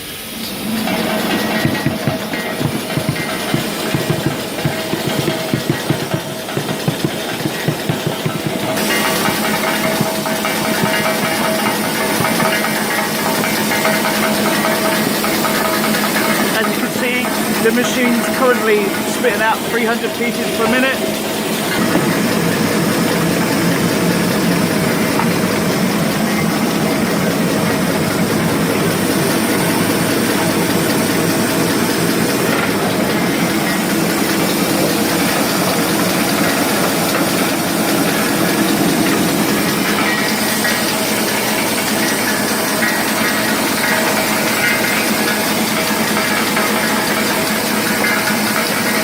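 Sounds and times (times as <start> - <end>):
machine hiss: 0.0 - 49.0
wrapping machine clattering: 0.5 - 49.0.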